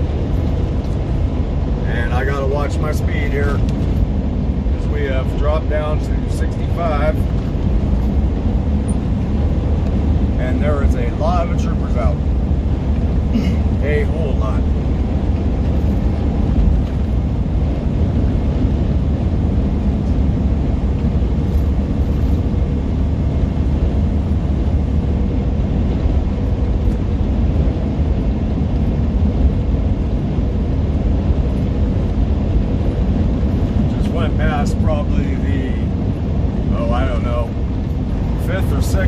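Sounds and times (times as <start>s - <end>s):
road noise: 0.0s - 39.0s
truck diesel engine drone: 0.0s - 39.0s.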